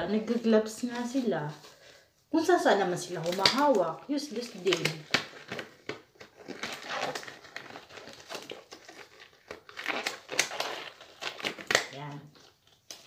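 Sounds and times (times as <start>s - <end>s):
disposable gloves crinkling: 0.0s - 13.0s.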